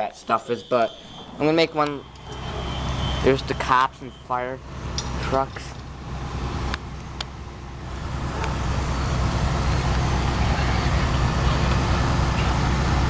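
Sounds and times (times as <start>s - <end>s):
traffic noise: 0.0s - 13.0s
vehicle engines rumbling: 0.0s - 13.0s.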